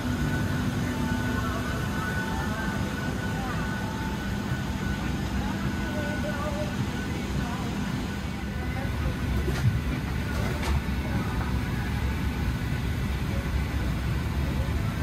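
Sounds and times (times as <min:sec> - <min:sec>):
aircraft cabin low rumble: 0:00.0 - 0:15.0.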